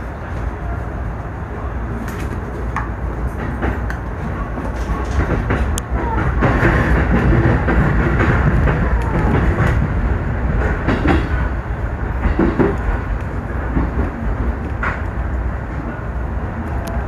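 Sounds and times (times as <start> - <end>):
train wheels rumbling on track: 0.0 - 17.0
wheels clacking over rail joints: 2.0 - 16.0.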